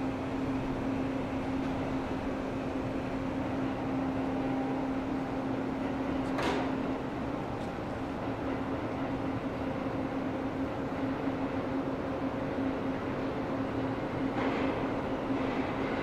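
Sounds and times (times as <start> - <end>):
electric train humming: 0.0 - 14.2.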